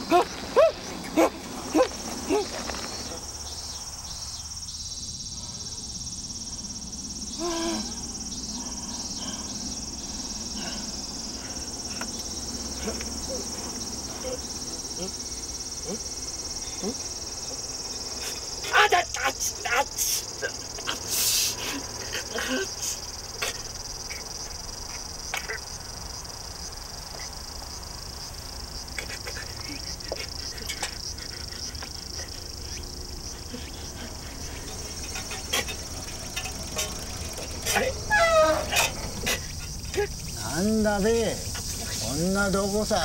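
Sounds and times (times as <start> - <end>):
insects droning: 0.0 - 43.0.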